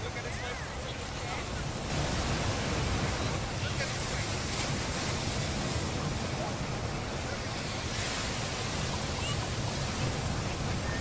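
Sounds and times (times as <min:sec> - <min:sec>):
surf waves washing on beach: 0:00.0 - 0:11.0.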